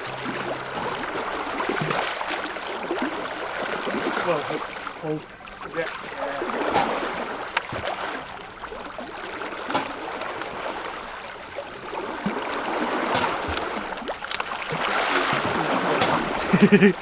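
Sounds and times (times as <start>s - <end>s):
water splashing against boat hull: 0.0s - 17.0s.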